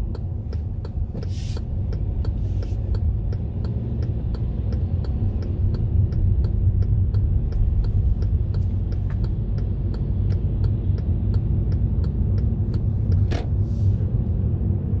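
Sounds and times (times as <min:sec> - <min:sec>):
turn signal ticking: 0:00.0 - 0:13.6
car interior road and engine rumble: 0:00.0 - 0:15.0.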